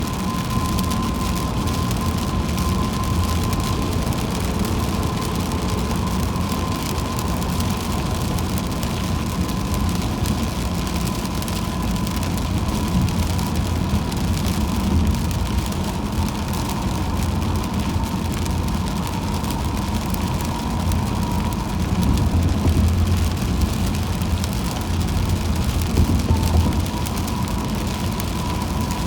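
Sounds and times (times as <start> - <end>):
faint steady whine: 0.0 - 29.0
road and engine rumble: 0.0 - 29.0
tyres hissing on wet road: 0.0 - 29.0.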